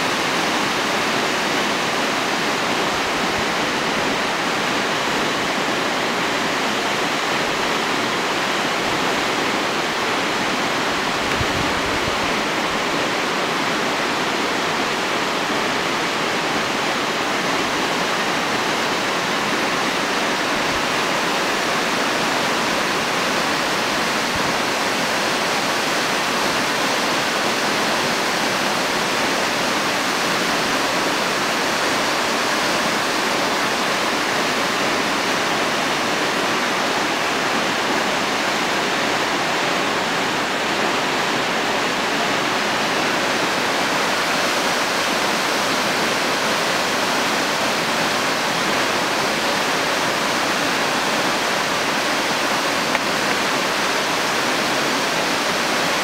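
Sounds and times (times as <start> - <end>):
waterfall rushing onto rock: 0.0 - 56.0.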